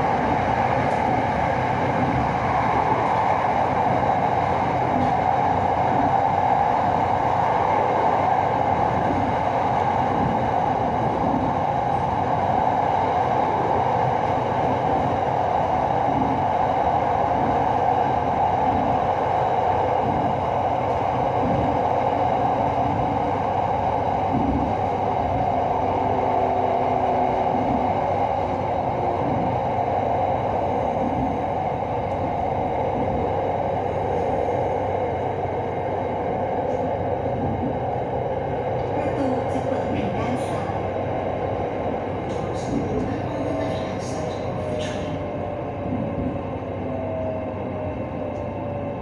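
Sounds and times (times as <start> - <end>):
train wheels rumbling: 0.0 - 49.0.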